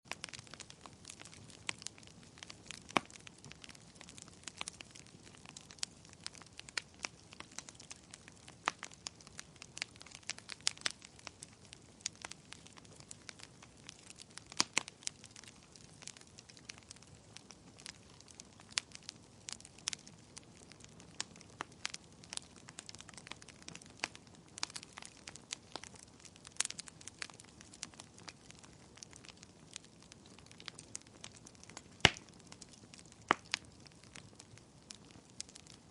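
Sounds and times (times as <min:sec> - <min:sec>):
fire crackling: 0:00.1 - 0:35.9.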